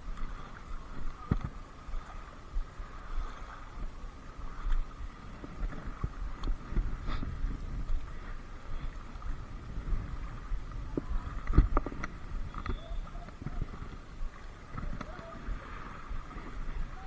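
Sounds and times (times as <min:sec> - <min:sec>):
waves lapping on pebbles: 0:00.0 - 0:17.0
wind on microphone: 0:00.0 - 0:17.0.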